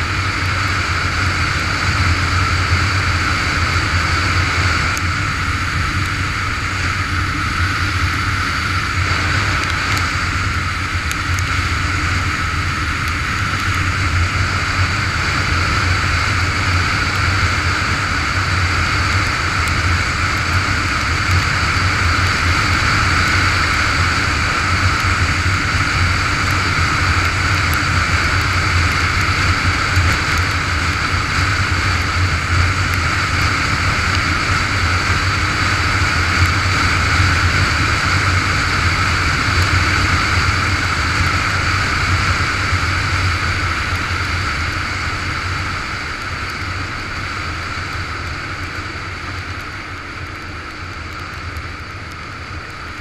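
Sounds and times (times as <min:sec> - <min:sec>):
motorcycle engine drone: 0:00.0 - 0:53.0
wind and road noise: 0:00.0 - 0:53.0.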